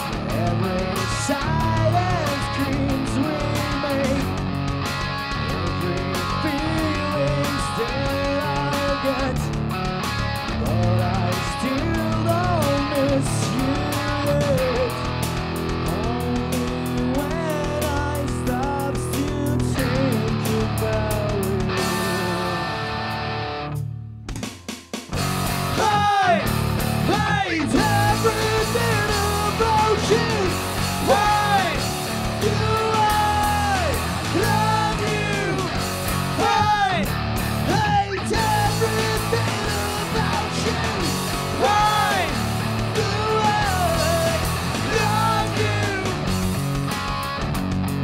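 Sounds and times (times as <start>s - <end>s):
singer singing and yelling: 0.0s - 23.5s, 25.2s - 46.7s
bass guitar: 0.0s - 48.0s
distorted electric guitar: 0.0s - 48.0s
drums: 0.0s - 48.0s.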